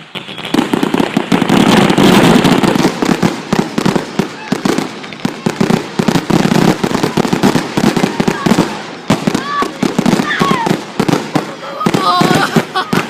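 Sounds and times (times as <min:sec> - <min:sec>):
fireworks popping and crackling: 0:00.0 - 0:13.0.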